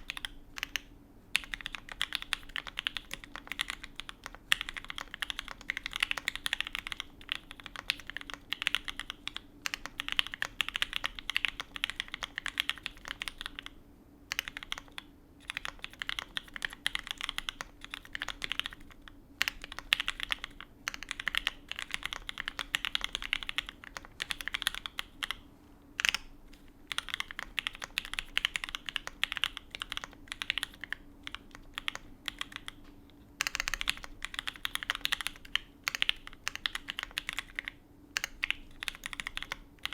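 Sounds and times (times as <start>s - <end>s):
mechanical keyboard typing: 0.0s - 25.4s, 26.0s - 39.9s.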